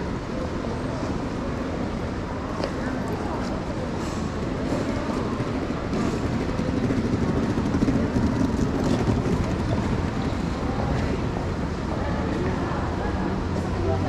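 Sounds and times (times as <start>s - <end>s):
faint indistinct voices: 0.0s - 14.0s
low rumble of busy street: 0.0s - 14.0s.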